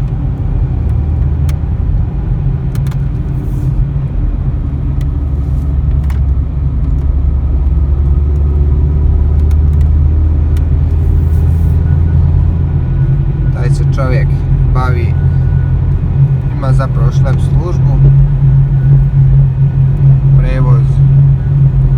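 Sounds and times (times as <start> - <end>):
car engine and road noise: 0.0 - 21.9.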